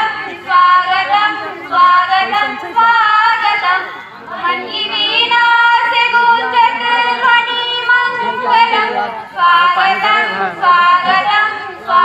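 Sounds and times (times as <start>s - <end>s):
women singing: 0.0s - 12.0s.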